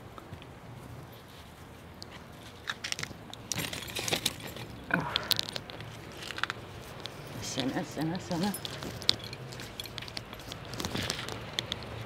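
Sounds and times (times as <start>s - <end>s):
plants and plastic bag rustling: 0.8s - 12.0s.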